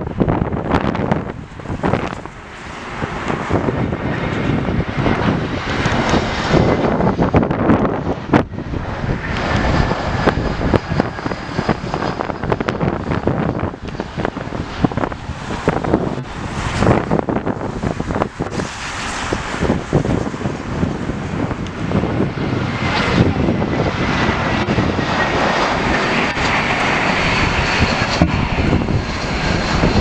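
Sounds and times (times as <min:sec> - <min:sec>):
jet engines rushing past: 0:00.0 - 0:30.0
wind buffeting microphone: 0:00.0 - 0:30.0.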